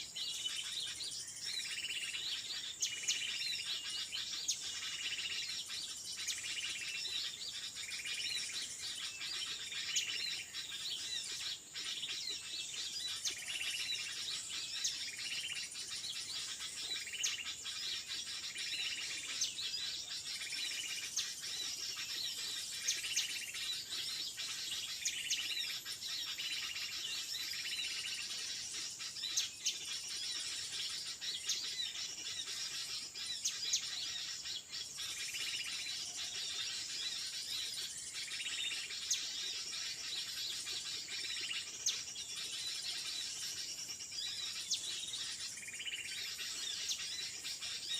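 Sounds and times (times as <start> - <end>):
small birds calling: 0.0 - 47.9.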